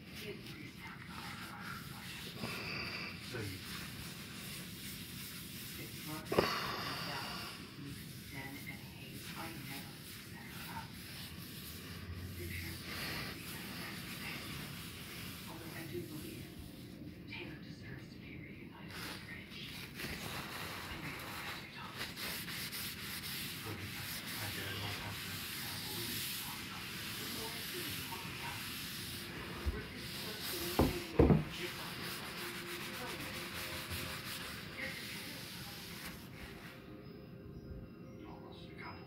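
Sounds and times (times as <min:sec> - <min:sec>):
cloth scrubbing on wood: 0:00.0 - 0:17.0, 0:18.9 - 0:36.8.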